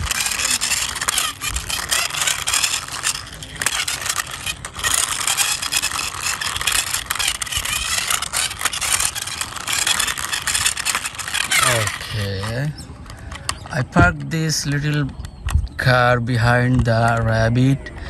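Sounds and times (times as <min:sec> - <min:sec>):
toy wheels scraping along wall: 0:00.0 - 0:15.2.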